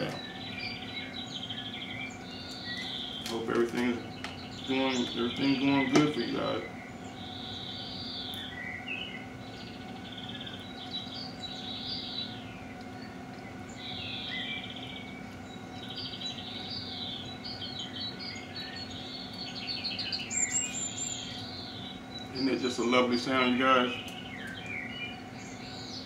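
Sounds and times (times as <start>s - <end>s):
birds chirping and trilling: 0.0s - 26.0s
steady low hum: 0.0s - 26.0s.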